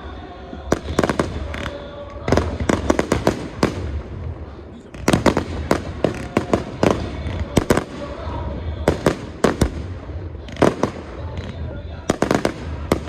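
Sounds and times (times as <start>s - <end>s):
firework bangs: 0.5s - 13.0s.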